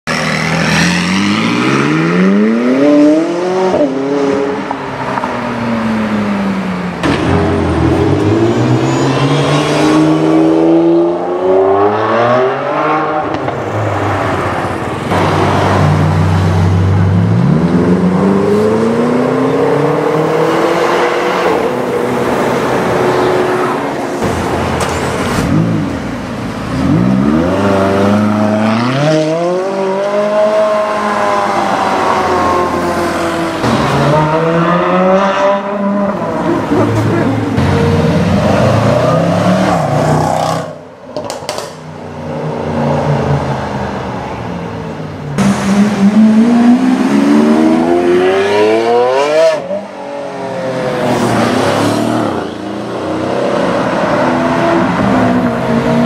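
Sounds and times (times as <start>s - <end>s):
sports cars accelerating hard: 0.1s - 40.9s, 41.5s - 56.0s.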